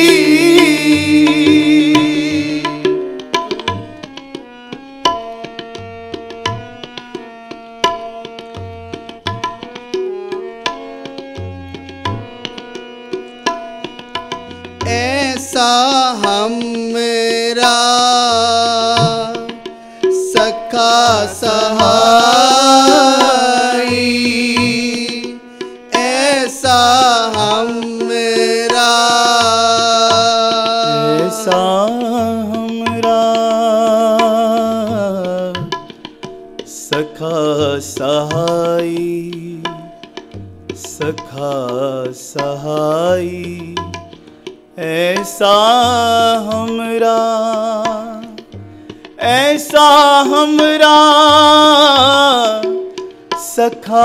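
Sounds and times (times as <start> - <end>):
harmonium notes: 0.0 - 54.0
tabla beat: 0.0 - 54.0.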